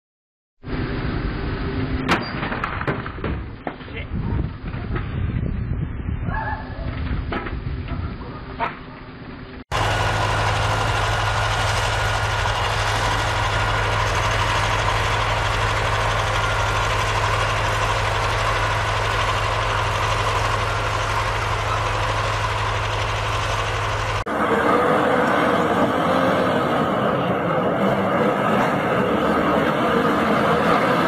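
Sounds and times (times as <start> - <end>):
heavy vehicle engine running: 0.6 - 2.2, 7.0 - 31.0.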